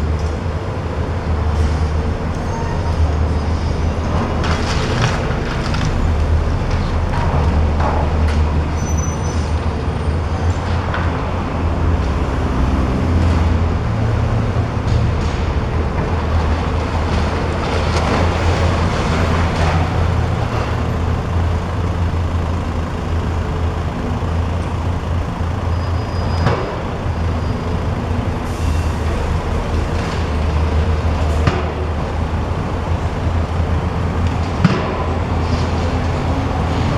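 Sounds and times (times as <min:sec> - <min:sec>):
demolition machinery engine rumble: 0:00.0 - 0:36.9.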